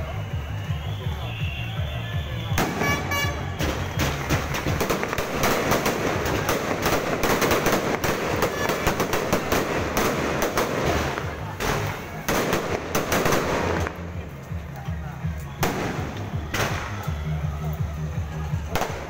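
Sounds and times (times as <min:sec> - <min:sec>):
fireworks crackling: 0:00.0 - 0:19.0
fireworks bangs: 0:00.8 - 0:14.3, 0:15.5 - 0:17.2, 0:18.7 - 0:19.0.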